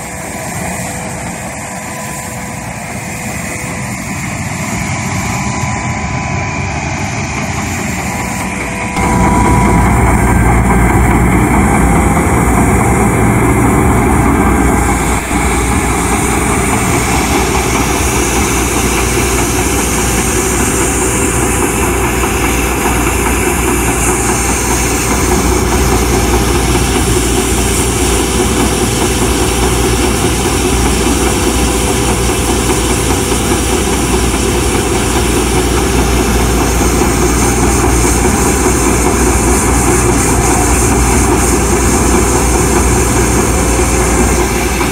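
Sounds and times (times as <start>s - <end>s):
street sweeper engine droning: 0.0s - 44.9s
rotating broom brushing wet pavement: 7.0s - 44.9s.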